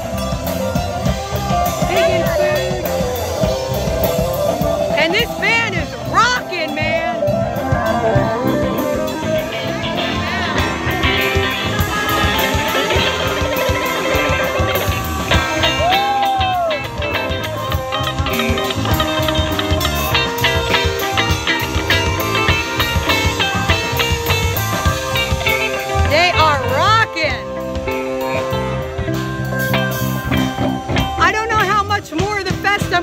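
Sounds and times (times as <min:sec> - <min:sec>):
drum kit: 0:00.0 - 0:33.0
electric guitars: 0:00.0 - 0:33.0
keyboard: 0:00.0 - 0:33.0.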